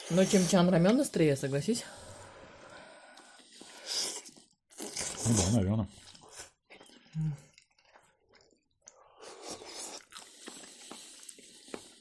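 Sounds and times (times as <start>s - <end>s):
chewing noodles: 2.4s - 12.0s.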